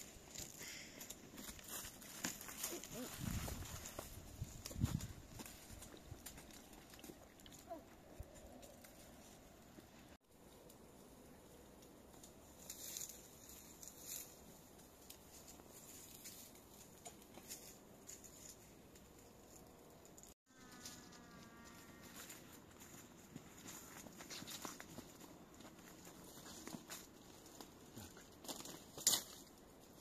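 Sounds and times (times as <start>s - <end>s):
twigs and leaves rustling: 0.0s - 30.0s.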